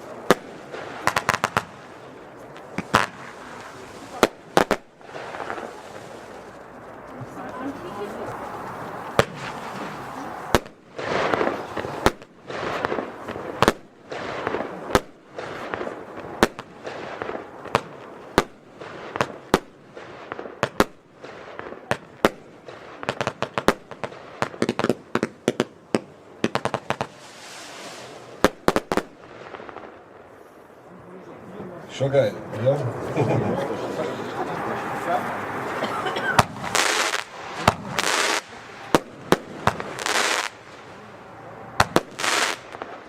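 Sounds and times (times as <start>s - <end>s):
firework hissing: 0.0s - 25.0s, 26.4s - 30.8s, 36.4s - 43.0s
firework bangs: 0.0s - 30.8s, 31.8s - 43.0s
cracking firework reports: 0.0s - 43.0s.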